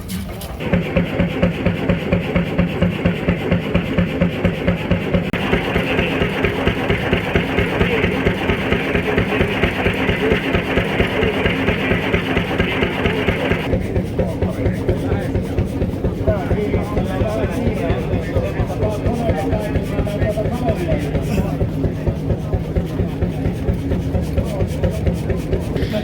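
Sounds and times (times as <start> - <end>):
engine with busy running note: 0.0 - 26.0
old engines running slowly: 0.0 - 26.0.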